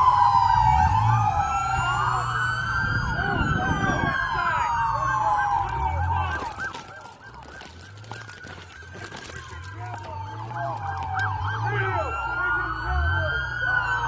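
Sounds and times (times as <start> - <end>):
police sirens wailing: 0.0 - 14.0
yelping siren: 0.0 - 14.0.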